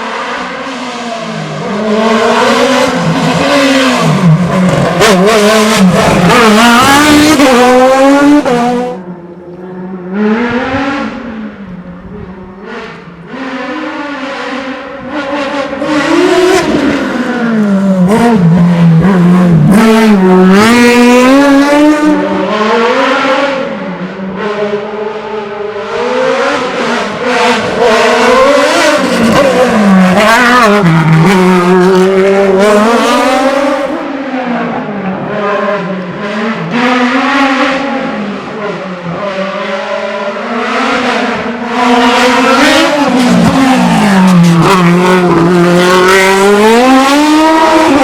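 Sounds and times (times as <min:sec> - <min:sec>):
racing car engine revving: 0:00.0 - 0:48.0.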